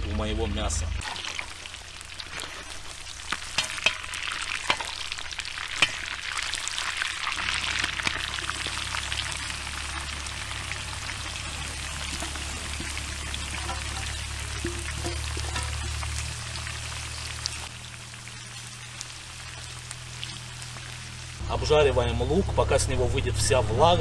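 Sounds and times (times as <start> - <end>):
meat sizzling in hot oil: 1.0 - 21.4.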